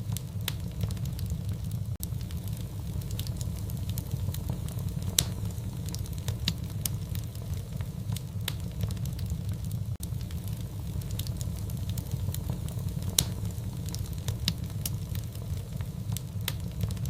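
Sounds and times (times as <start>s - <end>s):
fire crackling: 0.0s - 17.0s
low rumble of flame: 0.0s - 17.0s
sharp pops of fire: 0.0s - 17.0s.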